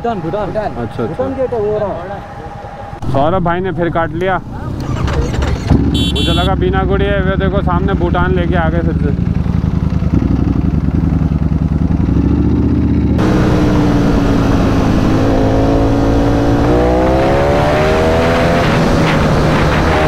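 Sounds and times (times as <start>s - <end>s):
motorcycle engine accelerating: 3.9s - 20.0s.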